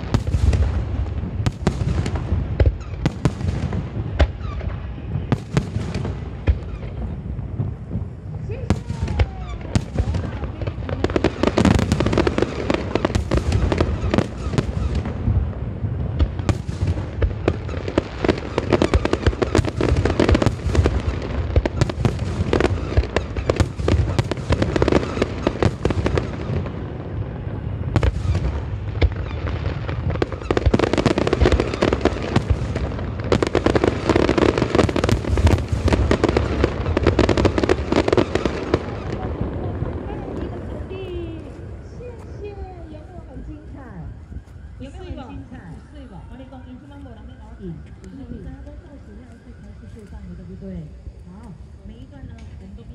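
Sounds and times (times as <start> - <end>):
fireworks bangs and crackle: 0.0 - 52.9.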